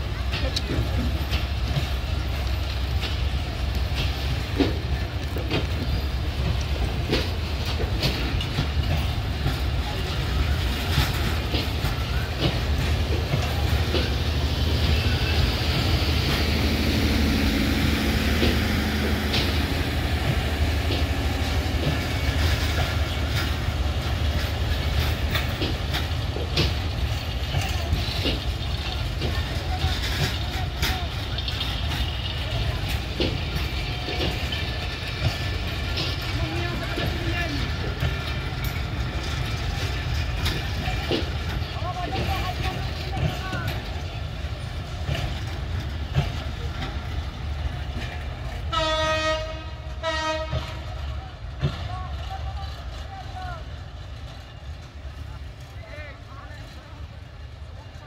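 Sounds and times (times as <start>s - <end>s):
low train rumble: 0.0s - 58.0s
train wheels clicking over rail joints: 0.0s - 58.0s.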